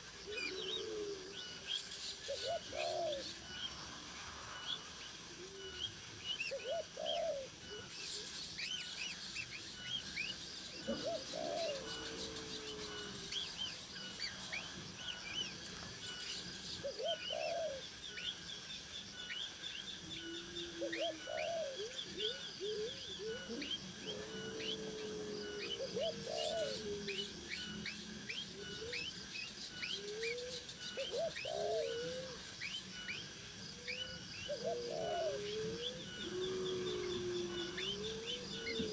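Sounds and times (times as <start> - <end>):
bird low cooing call: 0.0 - 38.9.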